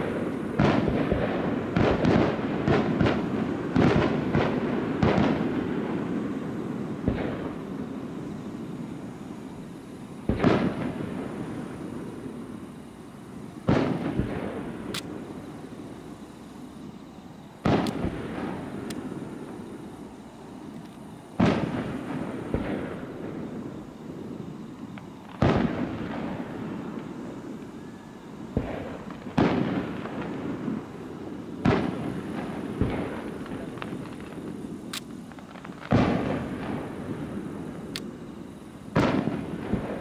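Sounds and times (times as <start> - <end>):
fireworks bangs with rumbling echo: 0.0 - 12.7, 13.3 - 16.0, 17.6 - 19.9, 21.3 - 27.6, 28.4 - 40.0.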